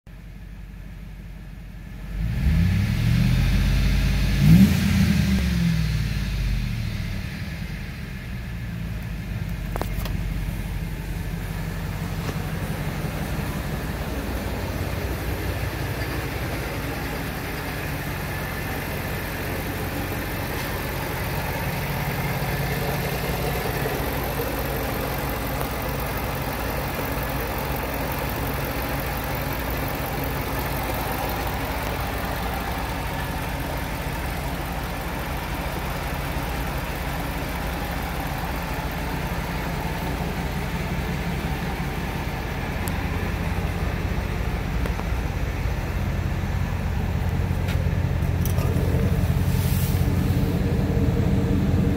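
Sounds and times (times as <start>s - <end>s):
truck engine idling: 3.4s - 51.9s.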